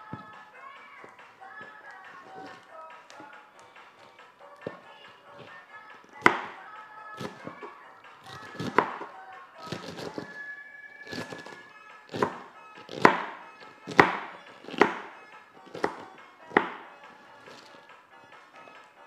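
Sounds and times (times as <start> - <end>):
knife chopping cabbage: 1.1 - 6.6, 7.2 - 10.4, 11.0 - 17.9.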